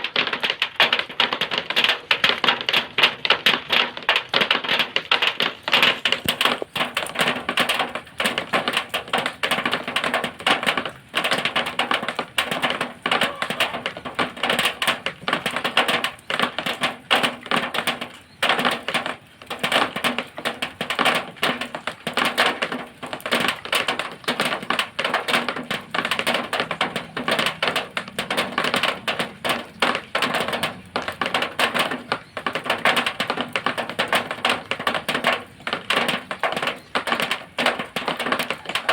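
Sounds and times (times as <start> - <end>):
rain drops on metal sheet: 0.0 - 38.9.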